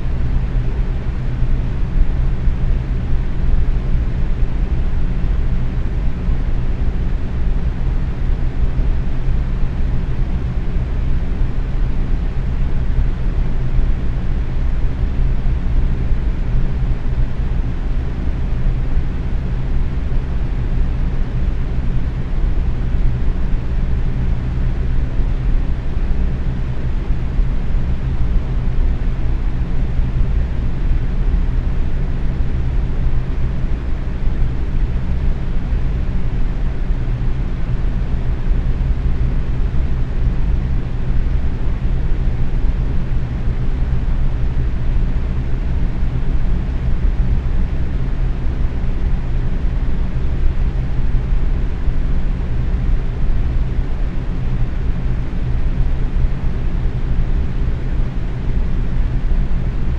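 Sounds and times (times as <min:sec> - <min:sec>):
box fan whooshing airflow: 0:00.0 - 0:59.9.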